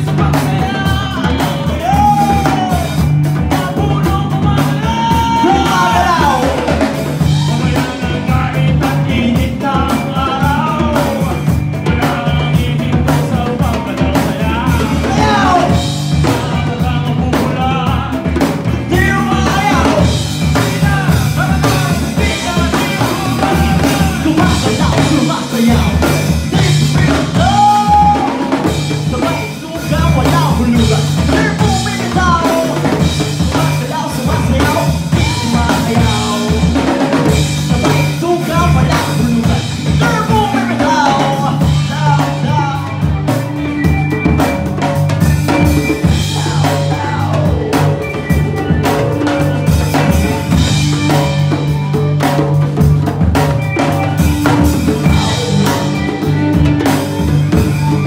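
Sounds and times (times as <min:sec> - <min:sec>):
djembe hand drumming: 0:00.0 - 0:58.0
drum kit: 0:00.0 - 0:58.0
electric bass line: 0:00.0 - 0:58.0.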